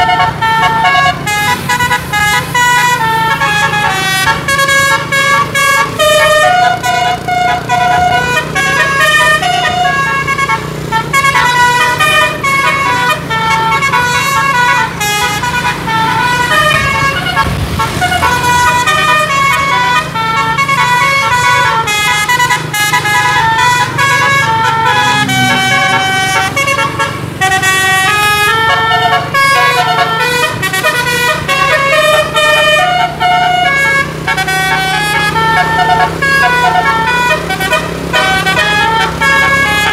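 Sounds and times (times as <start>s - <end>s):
musical air horns playing tune: 0.0s - 39.9s.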